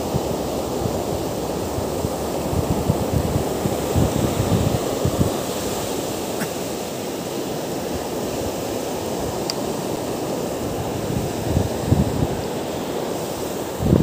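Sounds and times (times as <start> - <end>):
wind buffeting microphone: 0.0 - 7.0, 7.9 - 14.0
waves washing up a beach: 0.0 - 14.0.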